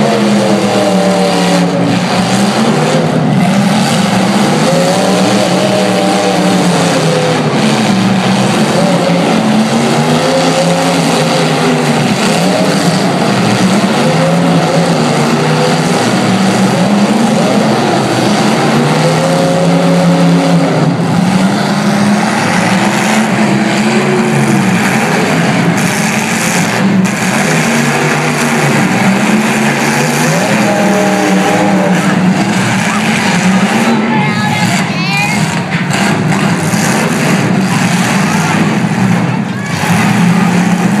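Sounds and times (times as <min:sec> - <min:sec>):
car engines revving: 0:00.0 - 0:41.0.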